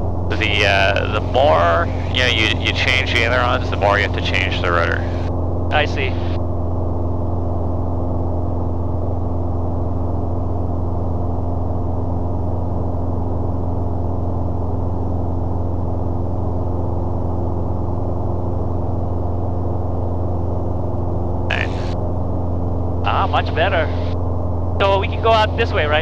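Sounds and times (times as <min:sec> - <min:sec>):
propeller plane engine hum: 0:00.0 - 0:26.0.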